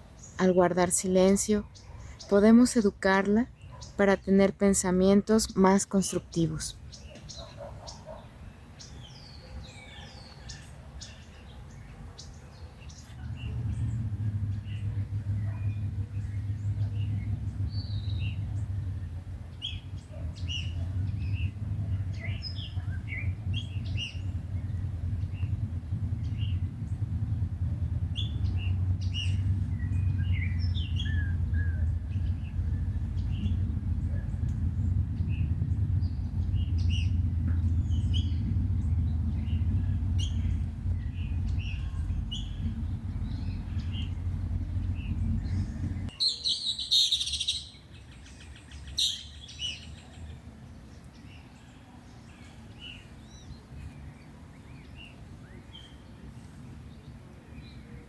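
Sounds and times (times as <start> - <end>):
small birds chirping: 0.0 - 58.0
steady low rumble: 0.0 - 58.0.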